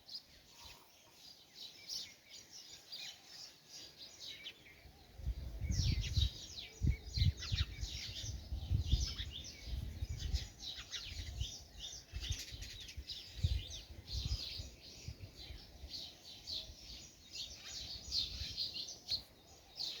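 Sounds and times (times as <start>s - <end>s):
small birds chirping with echo: 0.0s - 20.0s.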